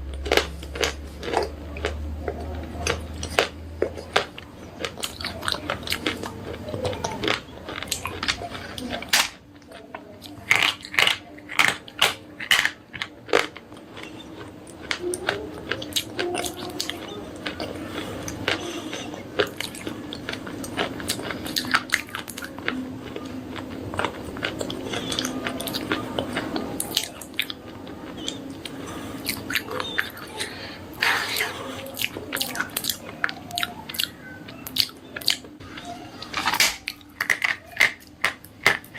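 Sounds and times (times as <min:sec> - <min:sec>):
soft chewing crunches: 0:00.0 - 0:38.9.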